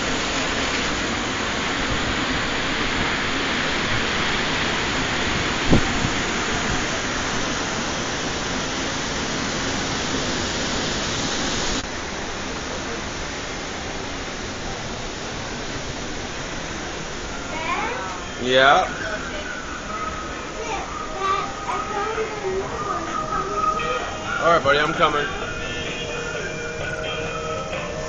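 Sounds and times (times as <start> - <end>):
heavy rain hiss: 0.0 - 28.0
wind: 0.0 - 28.0.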